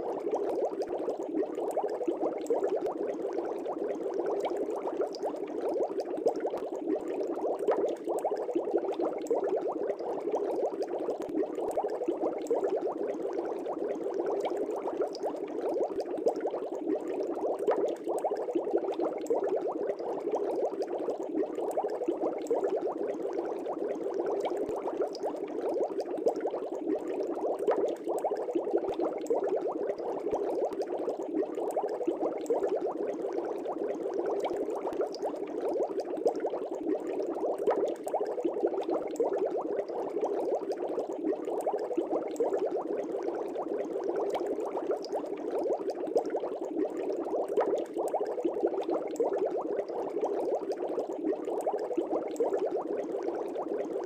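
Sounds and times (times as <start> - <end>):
aquarium air bubbling: 0.0 - 54.0.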